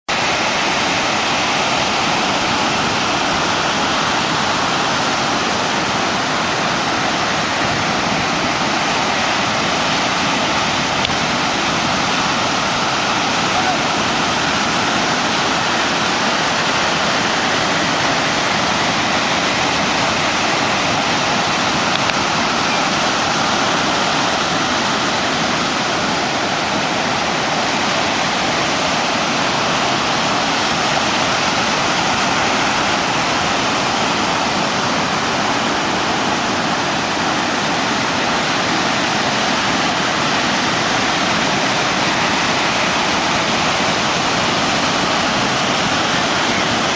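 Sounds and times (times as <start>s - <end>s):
ocean surf breaking: 0.1s - 46.9s.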